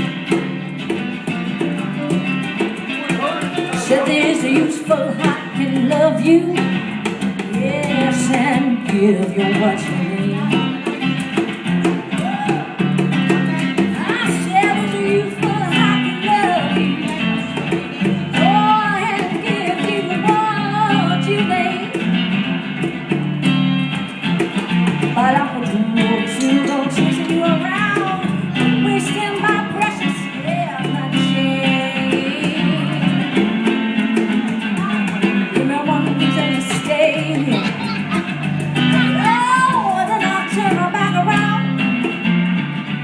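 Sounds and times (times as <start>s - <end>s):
blues band playing: 0.0s - 43.0s
lead guitar bending notes: 0.0s - 43.0s.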